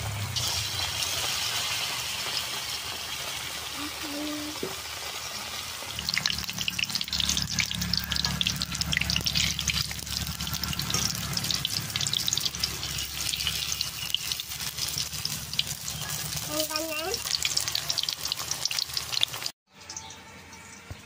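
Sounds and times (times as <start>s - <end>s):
oil sizzling and crackling: 0.0s - 20.1s.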